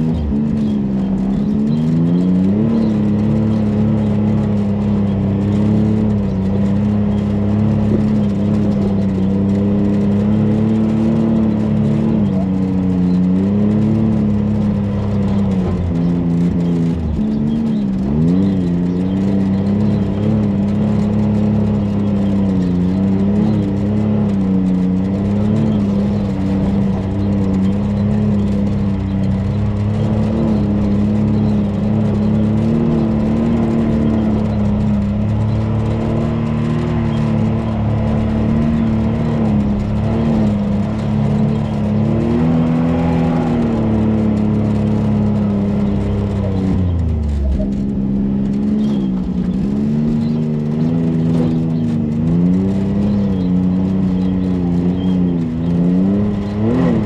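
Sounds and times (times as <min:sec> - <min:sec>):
utv engine at low throttle: 0:00.0 - 0:57.0.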